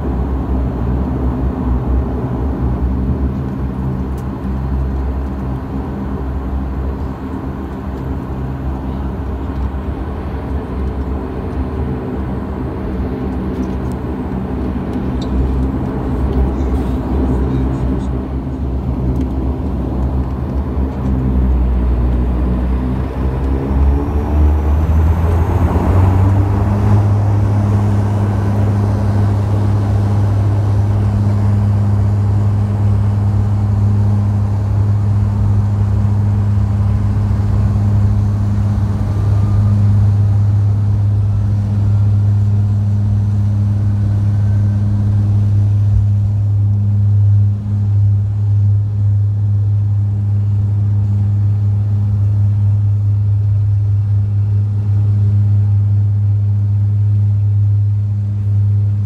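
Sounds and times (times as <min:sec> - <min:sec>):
propeller drone: 0:00.0 - 0:59.0.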